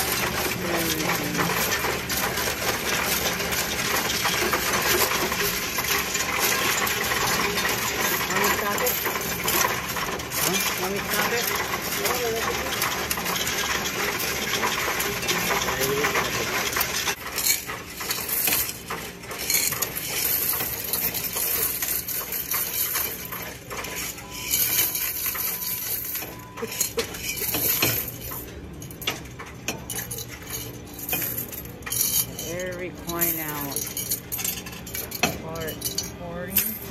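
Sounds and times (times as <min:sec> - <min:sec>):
coins rattling into a machine: 0:00.0 - 0:36.9.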